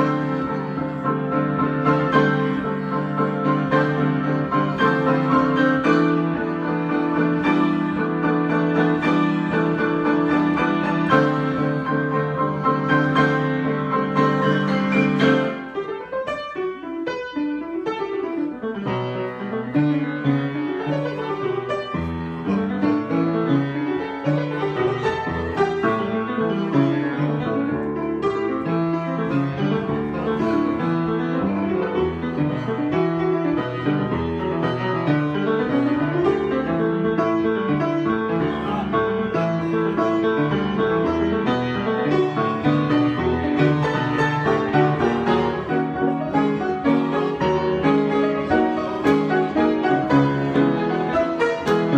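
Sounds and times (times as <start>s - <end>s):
solo piano: 0.0s - 51.9s.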